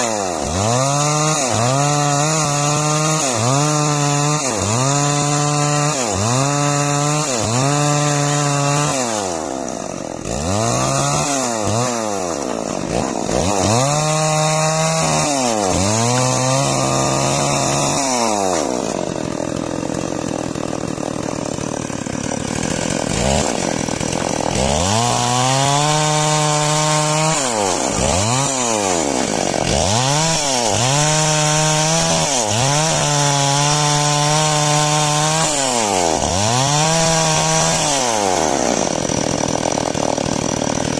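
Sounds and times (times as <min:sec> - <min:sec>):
chainsaw sawing timber: 0:00.0 - 0:40.9.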